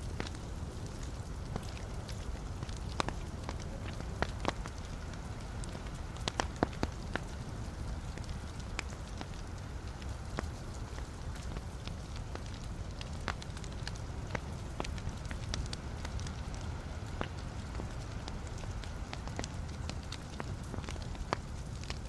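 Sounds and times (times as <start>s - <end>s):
burning logs popping and snapping: 0.0s - 22.0s
low rumble of flames: 0.0s - 22.0s.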